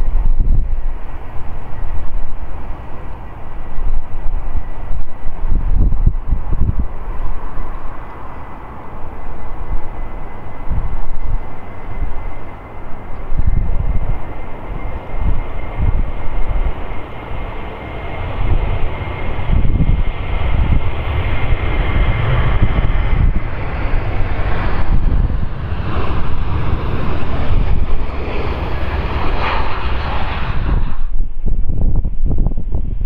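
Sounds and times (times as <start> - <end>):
jet engines taxiing: 0.0 - 33.0.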